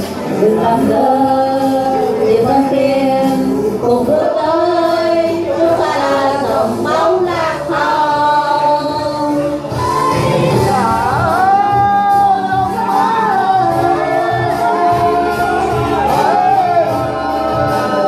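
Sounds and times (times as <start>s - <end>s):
group singing through pa speaker: 0.0s - 18.0s.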